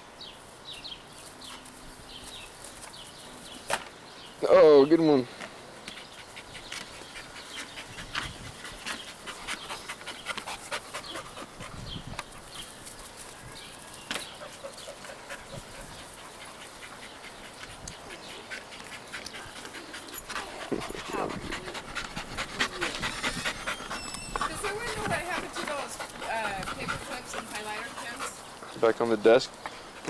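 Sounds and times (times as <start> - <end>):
dog panting: 5.8 - 30.0.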